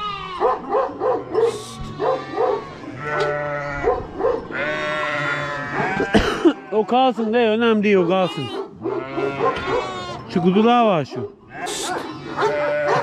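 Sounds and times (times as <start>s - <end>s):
sheep and lambs bleating: 0.0s - 0.7s, 1.3s - 10.8s, 11.5s - 13.0s.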